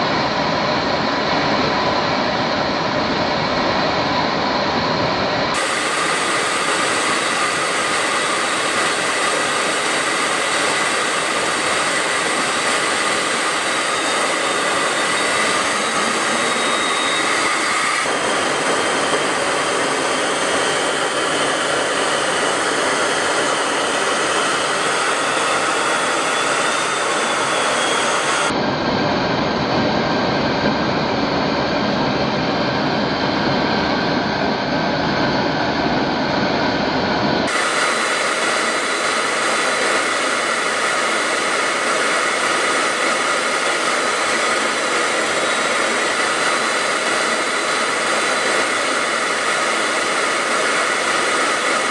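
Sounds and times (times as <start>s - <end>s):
jet engine rushing in flight: 0.0s - 51.9s.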